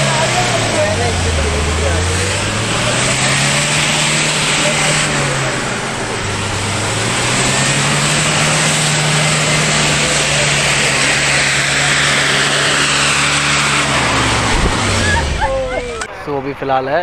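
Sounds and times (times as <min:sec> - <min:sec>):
diesel engine pulling under load: 0:00.0 - 0:16.3
tyres churning and spraying mud: 0:00.0 - 0:17.0.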